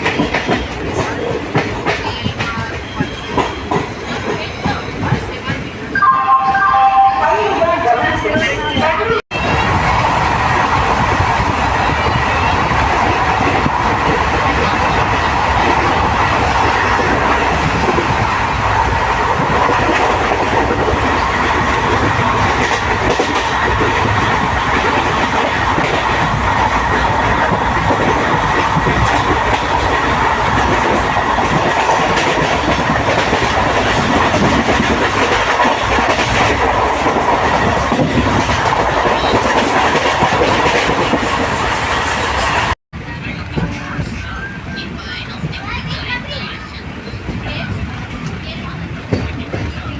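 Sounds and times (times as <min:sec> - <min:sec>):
train wheels on rails: 0:00.0 - 0:06.0, 0:08.2 - 0:49.9.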